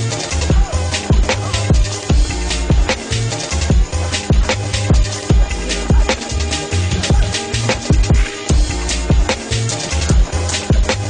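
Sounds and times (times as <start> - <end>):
electronic hip hop music: 0.0 - 11.0.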